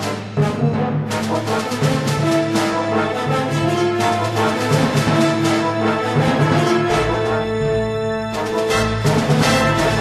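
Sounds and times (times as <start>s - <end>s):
theme music with held chords: 0.0s - 10.0s.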